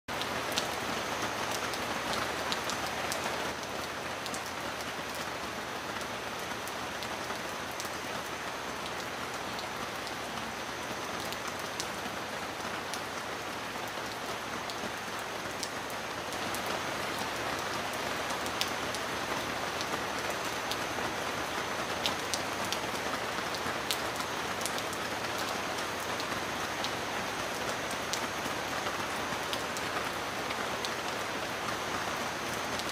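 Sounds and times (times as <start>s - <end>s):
heavy rain: 0.1s - 32.9s.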